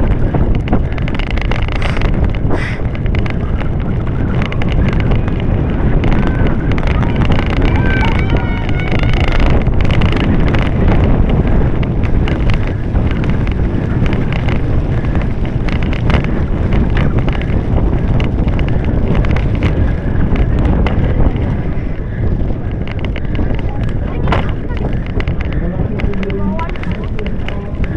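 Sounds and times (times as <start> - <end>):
bike clattering over rough ground: 0.0 - 27.9
wind buffeting microphone: 0.0 - 27.9.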